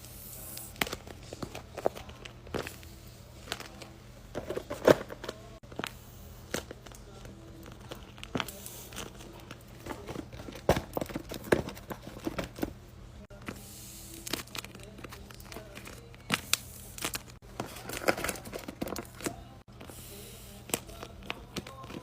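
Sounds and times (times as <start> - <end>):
paper crinkling: 0.4 - 22.0.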